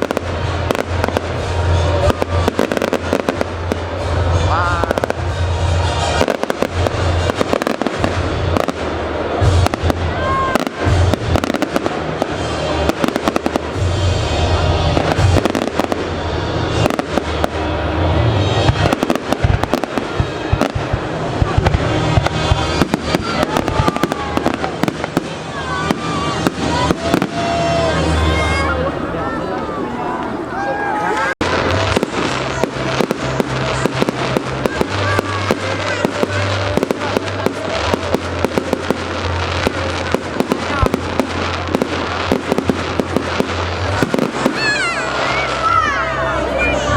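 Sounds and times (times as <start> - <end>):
fireworks popping and banging: 0.0 - 29.5, 31.2 - 46.9
music playing: 0.0 - 46.9.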